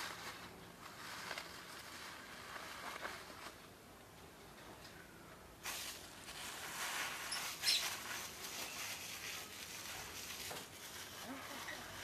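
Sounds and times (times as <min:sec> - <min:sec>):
plastic bag and paper crinkling: 0:00.0 - 0:03.6, 0:05.6 - 0:12.0.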